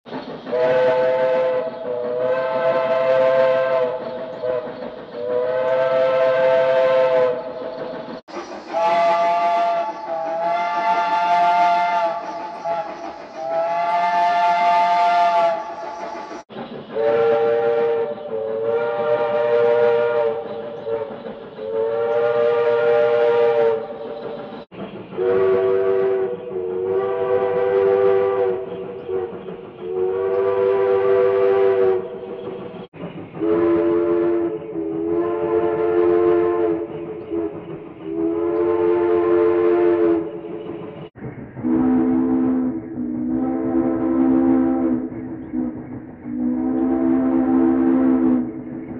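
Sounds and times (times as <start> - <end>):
train steam hiss: 0.1 - 48.9
steam locomotive whistle: 0.5 - 7.6, 8.7 - 16.0, 16.9 - 24.1, 25.2 - 32.5, 33.4 - 40.5, 41.6 - 48.6.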